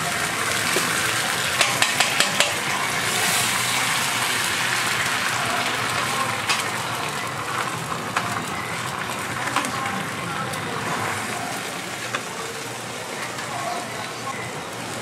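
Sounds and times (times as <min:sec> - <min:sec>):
egg sizzling on griddle: 0:00.0 - 0:15.0.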